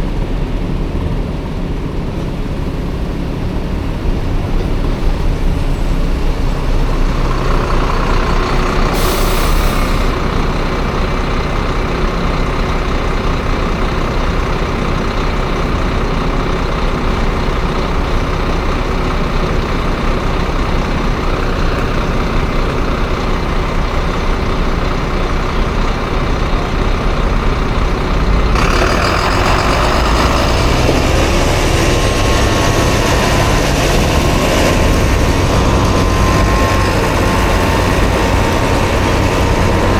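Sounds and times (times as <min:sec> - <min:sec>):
road noise of heavier vehicles: 0:00.0 - 0:39.9.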